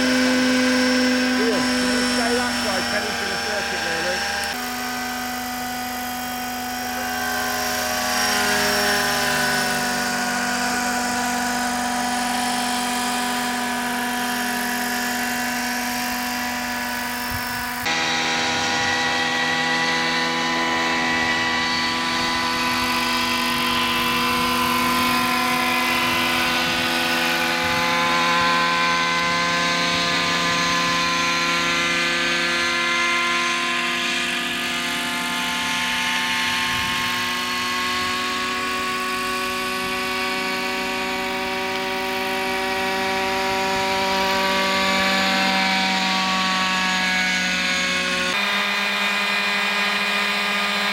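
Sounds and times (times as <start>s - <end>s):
model helicopter rotor whine: 0.0s - 50.9s.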